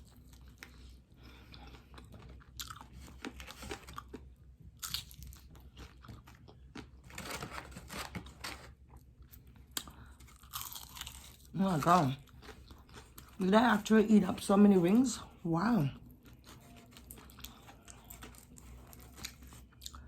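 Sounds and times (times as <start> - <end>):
chewing crispy fried chicken: 0.0 - 20.0.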